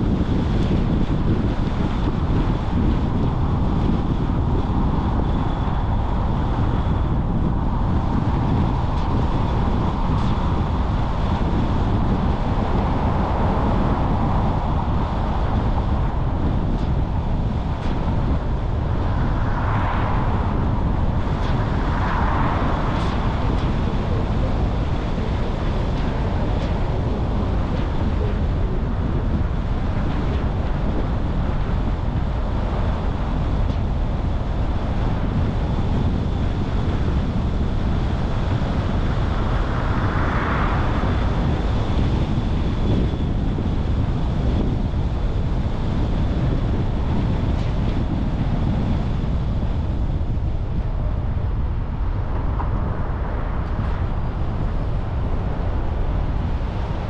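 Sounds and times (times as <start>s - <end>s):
car road noise rumble: 0.0s - 57.0s
wind on microphone: 0.0s - 57.0s.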